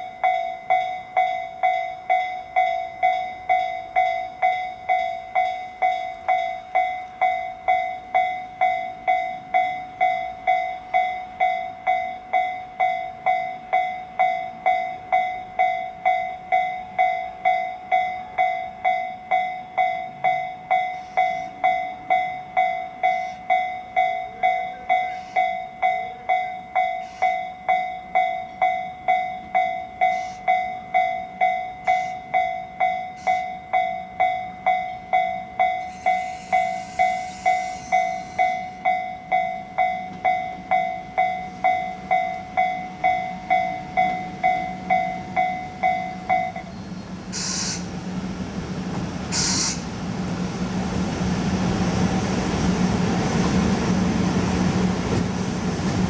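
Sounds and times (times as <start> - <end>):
level-crossing alarm bell: 0.0 - 48.6.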